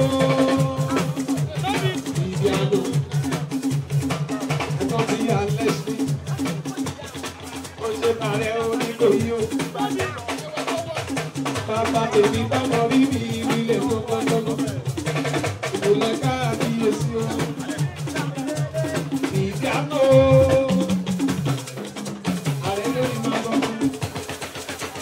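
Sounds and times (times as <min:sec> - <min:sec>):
dance music with drum beat: 0:00.0 - 0:25.0.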